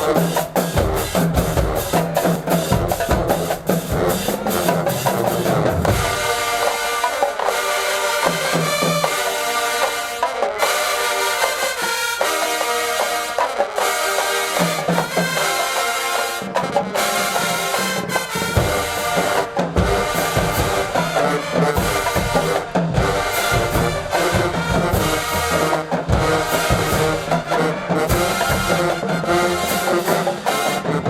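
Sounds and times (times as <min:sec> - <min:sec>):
low brass: 0:00.0 - 0:31.0
marching drums: 0:00.0 - 0:31.0
trumpets and trombones: 0:00.0 - 0:31.0.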